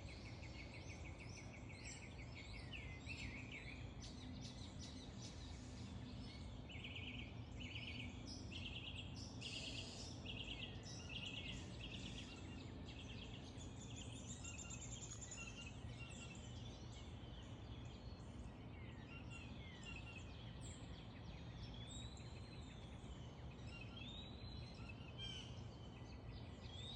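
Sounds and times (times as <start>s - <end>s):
birds calling and singing: 0.0s - 26.9s.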